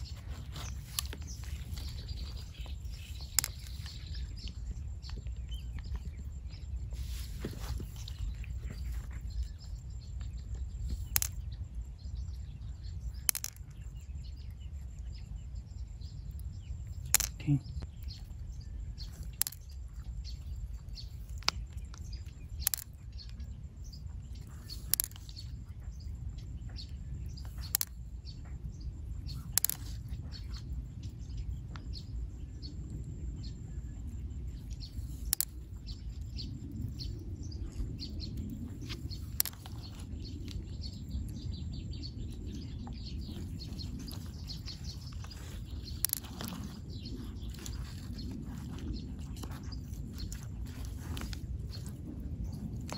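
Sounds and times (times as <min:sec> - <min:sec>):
faint bird chirps: 0:00.0 - 0:52.9
low steady rumble: 0:00.0 - 0:52.9.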